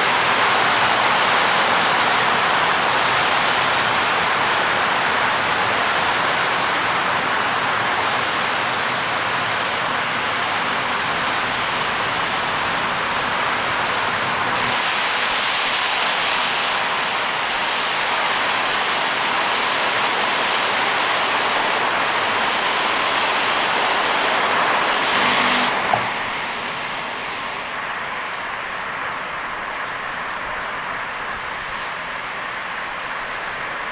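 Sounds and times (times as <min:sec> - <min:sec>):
rain and tyre spray: 0:00.0 - 0:33.9.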